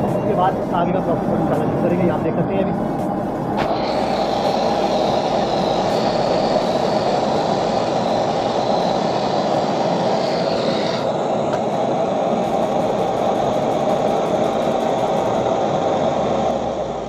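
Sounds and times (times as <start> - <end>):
gas torch flame roaring: 0.0 - 17.0.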